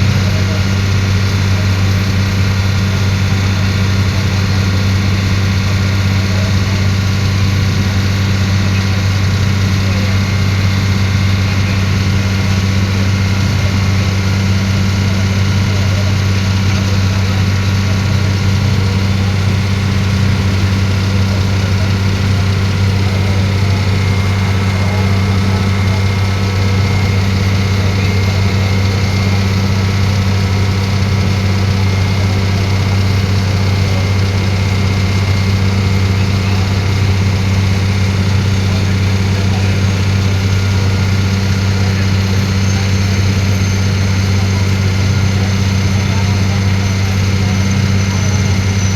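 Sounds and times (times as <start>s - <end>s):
ferry engine droning: 0.0s - 48.9s.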